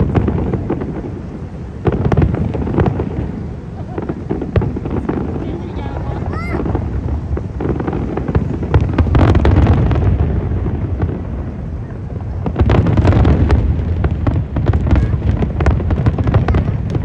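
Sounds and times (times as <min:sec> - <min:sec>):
fireworks booming: 0:00.0 - 0:17.0
fireworks cracks and crackles: 0:00.0 - 0:17.0.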